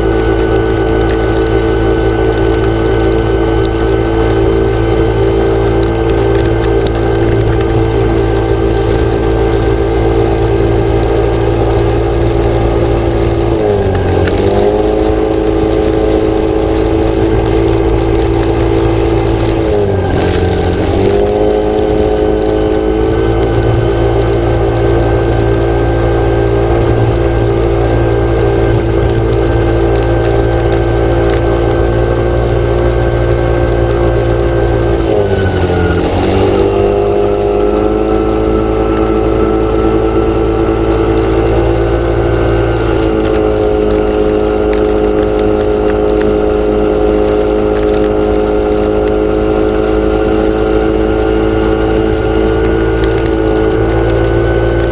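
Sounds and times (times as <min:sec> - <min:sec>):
engine running loudly: 0:00.0 - 0:54.9.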